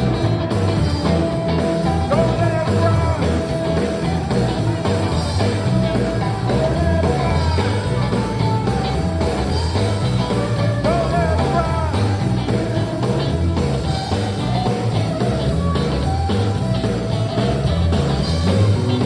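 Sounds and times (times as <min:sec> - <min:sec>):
bass and drum groove: 0:00.0 - 0:19.0.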